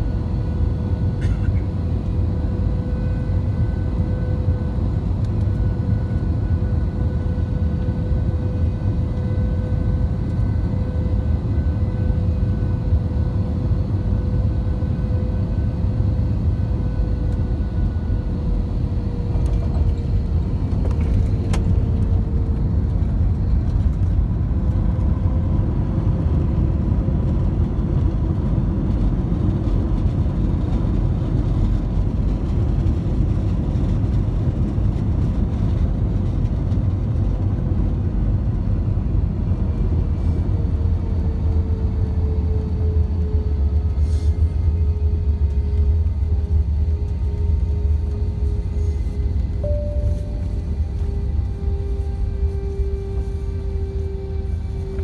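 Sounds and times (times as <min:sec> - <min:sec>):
airplane cabin rumble: 0:00.0 - 0:55.0
faint engine tones: 0:00.0 - 0:55.0.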